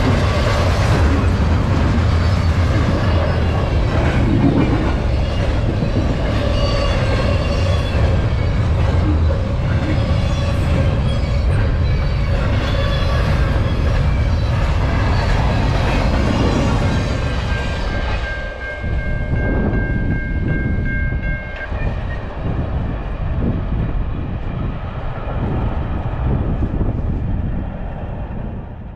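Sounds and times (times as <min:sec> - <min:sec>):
freight train rumble and clatter: 0:00.0 - 0:28.9.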